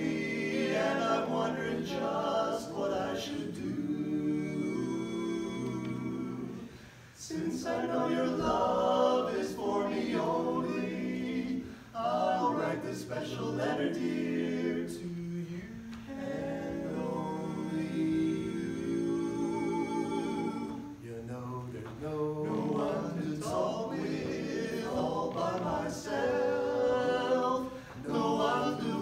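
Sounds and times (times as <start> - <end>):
male quartet singing in harmony: 0.0 - 29.0.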